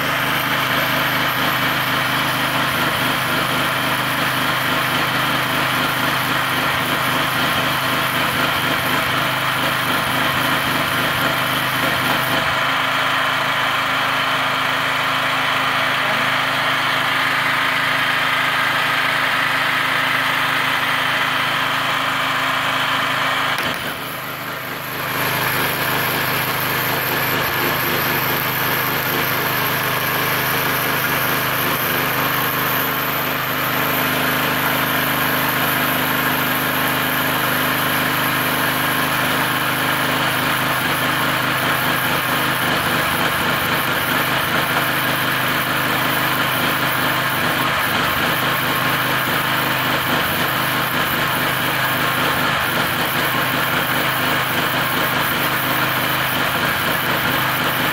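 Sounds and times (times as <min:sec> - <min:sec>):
generator engine running: 0:00.0 - 0:57.9
welding arc crackling: 0:00.0 - 0:57.9.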